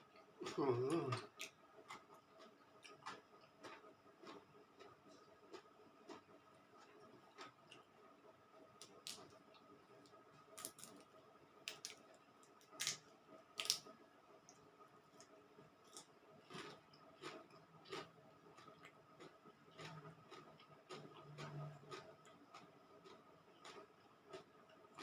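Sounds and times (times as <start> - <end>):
person chewing crunchy food: 0.0 - 7.9, 8.8 - 25.0.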